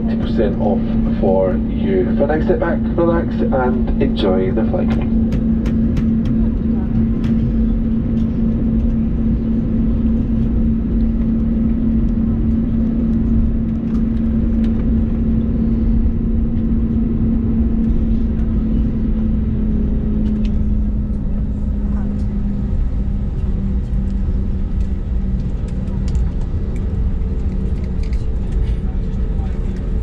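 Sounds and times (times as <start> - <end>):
airliner cabin engine drone: 0.0 - 30.0.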